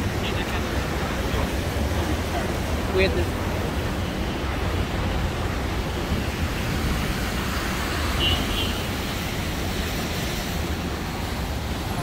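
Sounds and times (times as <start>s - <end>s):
traffic on wet street: 0.0s - 12.0s.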